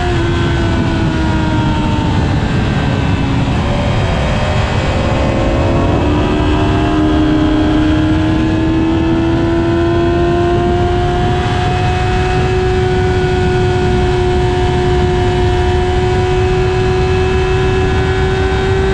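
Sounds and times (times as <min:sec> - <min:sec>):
heavy wind noise: 0:00.0 - 0:18.9
motorcycle engine at high revs: 0:00.0 - 0:18.9.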